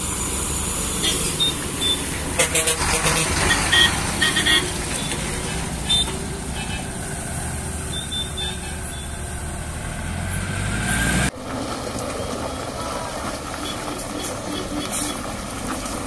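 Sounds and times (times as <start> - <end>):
diesel lorry engine rumbling: 0.0 - 16.0.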